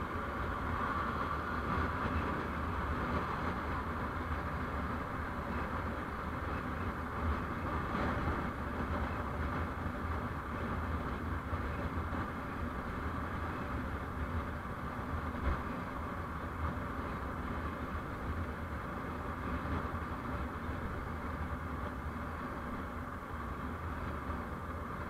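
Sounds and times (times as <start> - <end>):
vehicle road noise rumble: 0.0 - 25.0.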